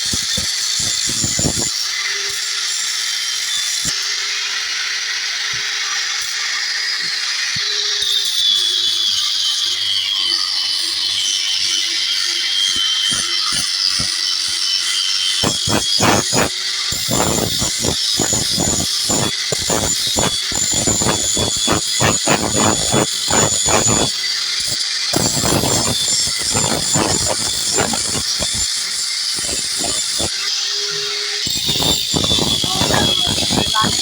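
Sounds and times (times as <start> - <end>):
power tool motor whine: 0.0 - 34.0.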